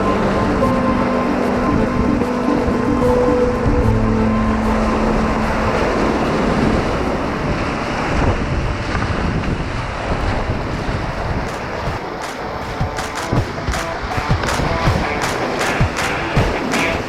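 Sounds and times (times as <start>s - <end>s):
river whitewater rushing: 0.0s - 17.0s
wind buffeting microphone: 0.0s - 17.0s.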